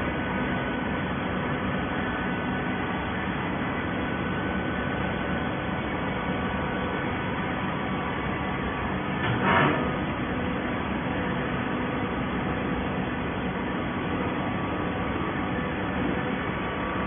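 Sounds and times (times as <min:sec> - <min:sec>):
baler motor and pump humming: 0:00.0 - 0:17.0.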